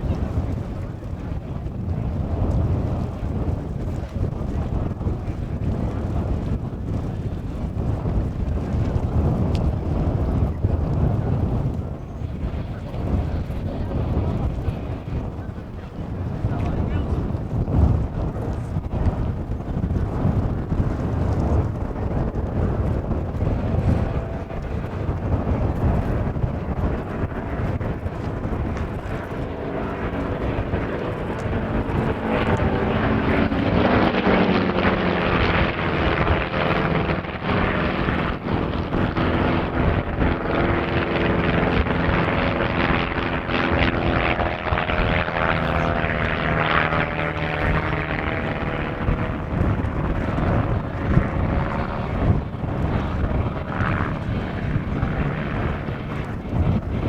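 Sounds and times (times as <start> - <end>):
propeller plane engines passing: 0.0 - 57.0.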